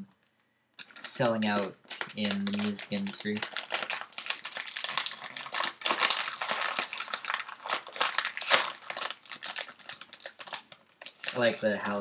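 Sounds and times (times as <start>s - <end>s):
plastic snack bag crinkling: 0.8s - 12.0s.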